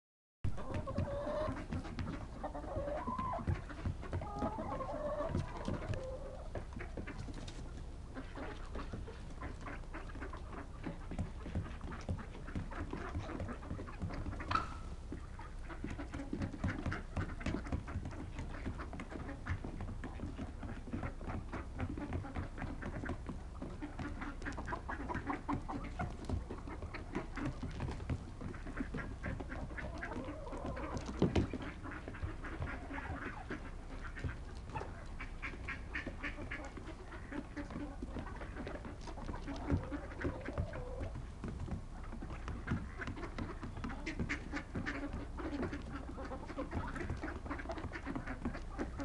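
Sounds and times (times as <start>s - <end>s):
ducks quacking: 0.5s - 49.0s
bird calls: 0.6s - 49.0s.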